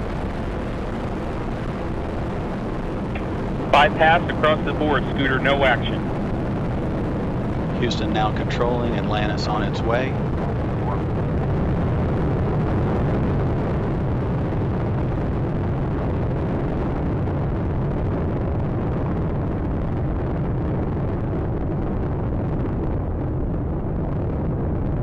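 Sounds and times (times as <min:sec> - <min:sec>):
rocket engines rumbling: 0:00.0 - 0:25.0.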